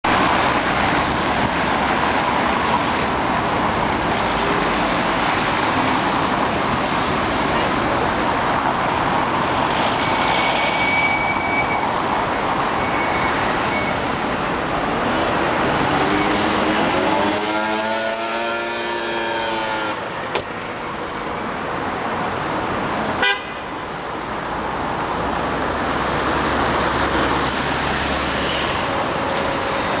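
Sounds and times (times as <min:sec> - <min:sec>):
road traffic on wet road: 0:00.0 - 0:30.0.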